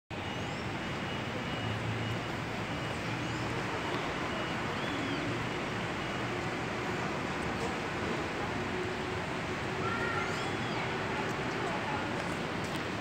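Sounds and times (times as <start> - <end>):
distant road traffic: 0.1 - 13.0.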